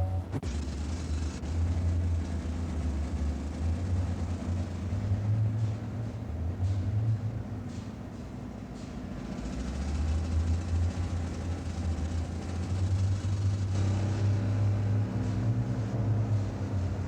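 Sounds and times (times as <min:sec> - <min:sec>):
large vehicle low hum: 0:00.0 - 0:17.0.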